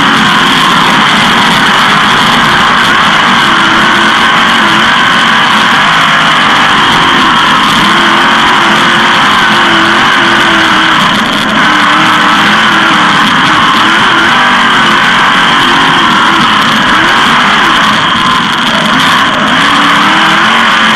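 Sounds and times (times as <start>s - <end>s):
racing car engine: 0.0s - 20.9s.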